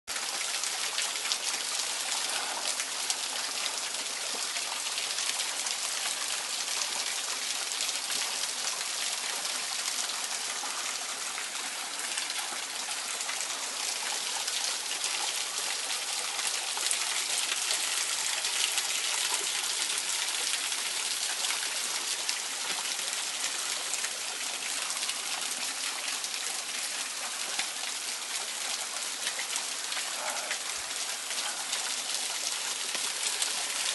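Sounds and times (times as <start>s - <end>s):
small waterfall splashing on stones: 0.1s - 33.9s.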